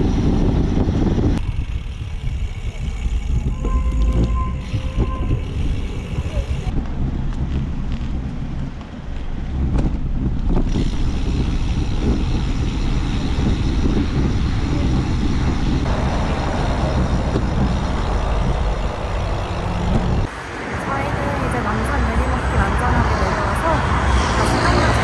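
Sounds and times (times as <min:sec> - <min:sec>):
bicycle tyre noise: 0:00.0 - 0:20.3
street traffic: 0:00.0 - 0:25.0
wind rumbling on microphone: 0:00.0 - 0:25.0.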